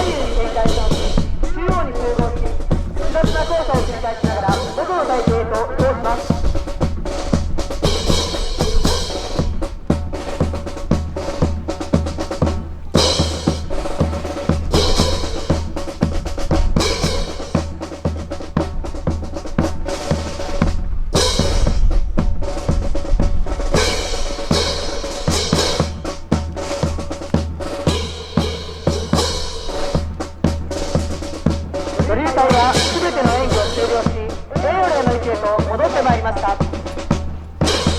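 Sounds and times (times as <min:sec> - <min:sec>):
bass drum and snare beat: 0:00.0 - 0:37.9.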